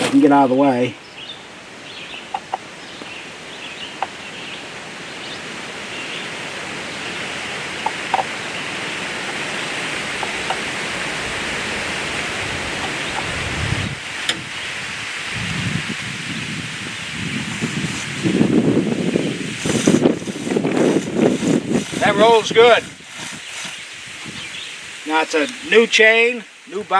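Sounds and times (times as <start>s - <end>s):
rushing outdoor background noise: 0.0s - 26.9s.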